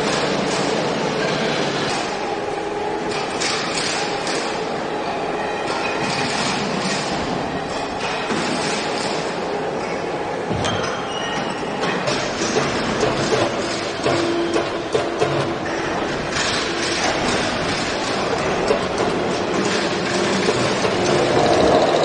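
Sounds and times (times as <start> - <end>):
machinery noise: 0.0 - 22.0.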